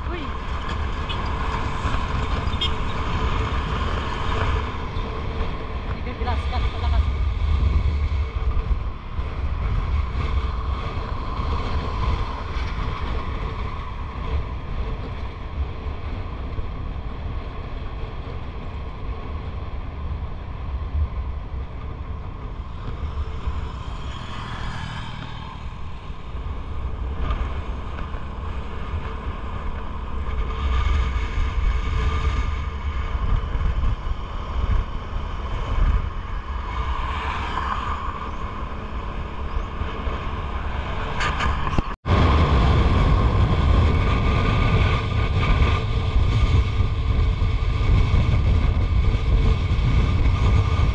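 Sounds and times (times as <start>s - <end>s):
oncoming vehicles passing: 0.0s - 50.9s
wind rushing over microphone: 0.0s - 50.9s.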